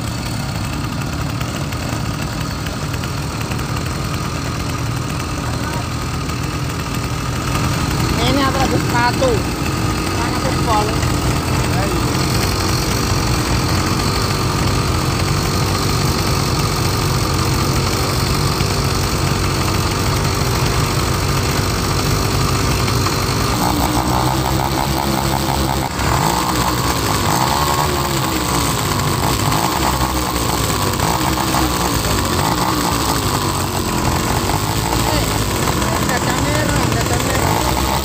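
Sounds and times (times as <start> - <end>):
small engines idling and revving: 0.0 - 38.0.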